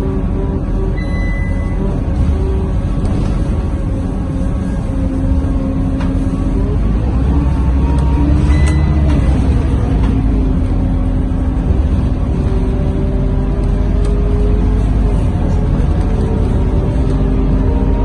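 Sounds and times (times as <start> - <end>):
bus diesel engine rumble: 0.0 - 18.0.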